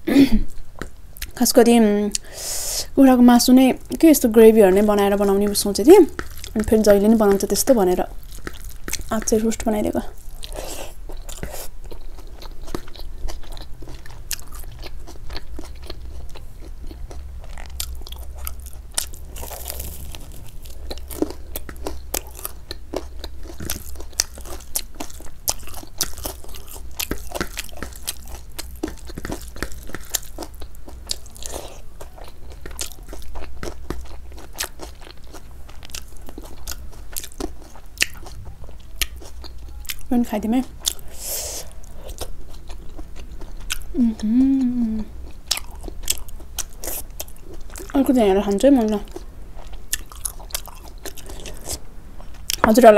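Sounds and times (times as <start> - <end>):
close-miked chewing and crunching: 0.5 - 2.3, 3.4 - 52.9.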